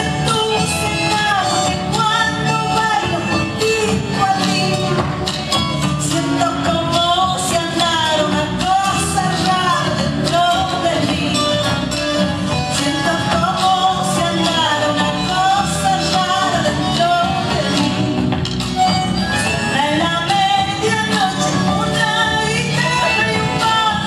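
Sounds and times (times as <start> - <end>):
instrumental accompaniment: 0.0 - 24.0
person singing folk song: 0.0 - 24.0.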